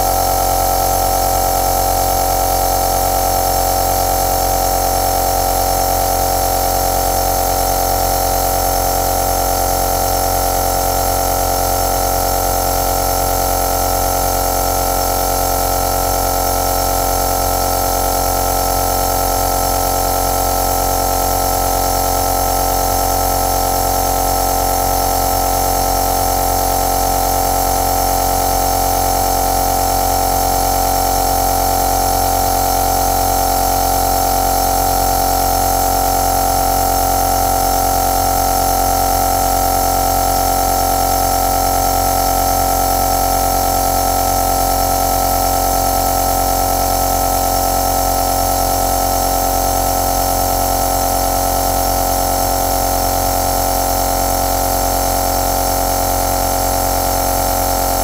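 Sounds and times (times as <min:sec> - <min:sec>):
nebulizer motor hum and whine: 0:00.0 - 0:58.0.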